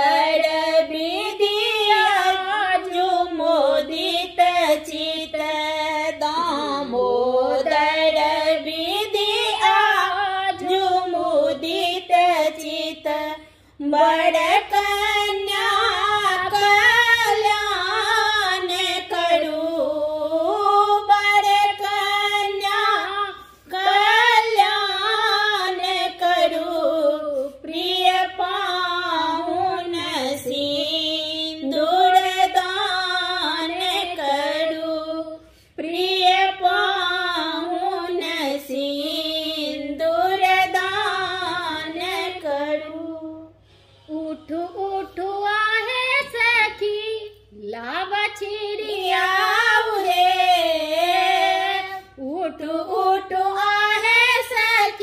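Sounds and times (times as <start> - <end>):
women singing unaccompanied: 0.0 - 55.0.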